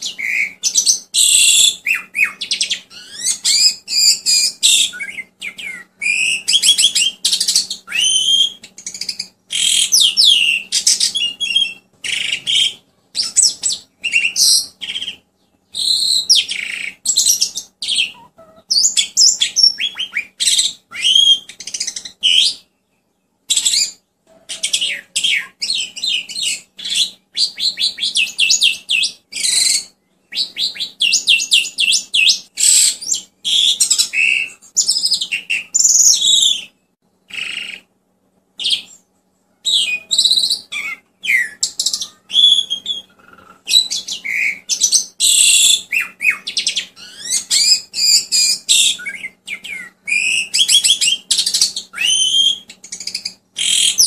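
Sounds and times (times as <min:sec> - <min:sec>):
starling singing: 0:00.0 - 0:22.8, 0:23.5 - 0:37.9, 0:38.6 - 0:54.0
faint steady hum: 0:00.0 - 0:54.0.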